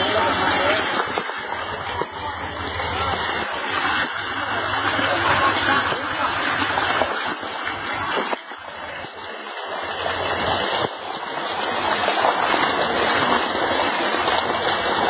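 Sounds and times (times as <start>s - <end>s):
water gushing from tree trunk: 0.0s - 15.0s.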